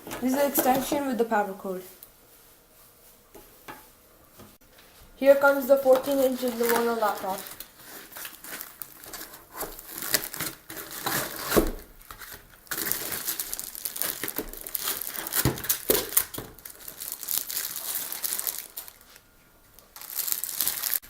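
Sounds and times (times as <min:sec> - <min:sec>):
packaging crinkling and rustling: 0:00.0 - 0:01.3, 0:05.4 - 0:21.0.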